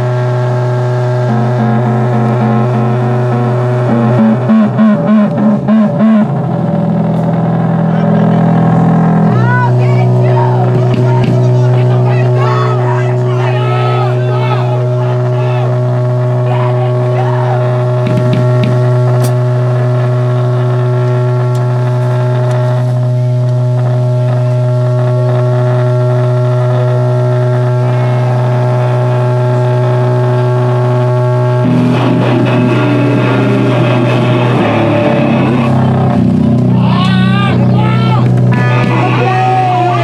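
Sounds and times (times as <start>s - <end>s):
amplified guitar drone: 0.0s - 40.0s
band playing: 0.0s - 40.0s.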